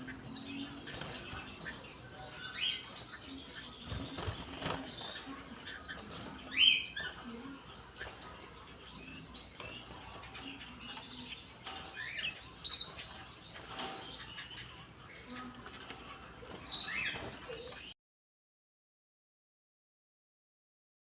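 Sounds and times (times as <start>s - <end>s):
small birds chirping: 0.0s - 18.0s
wings fluttering and scratching: 0.0s - 18.0s.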